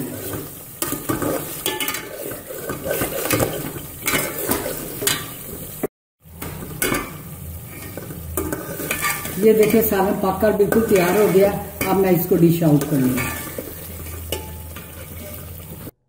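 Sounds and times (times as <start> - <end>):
metal spatula scraping a pot: 0.0 - 5.7, 6.4 - 15.9
steady sizzle: 0.0 - 16.0.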